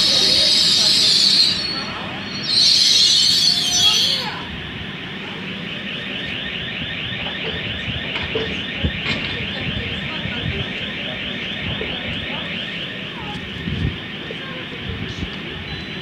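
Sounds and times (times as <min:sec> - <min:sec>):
low train rumble: 0:00.0 - 0:16.0
train door warning beeps: 0:00.0 - 0:16.0.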